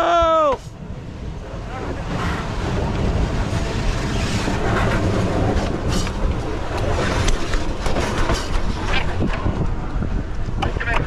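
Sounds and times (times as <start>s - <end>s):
steel wheels rumbling on rails: 0.0s - 11.0s.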